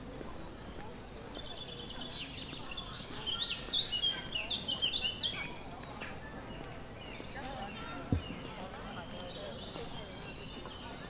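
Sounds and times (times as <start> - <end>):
faint chatter of people: 0.0 - 11.0
songbird singing: 0.2 - 5.7, 6.4 - 11.0.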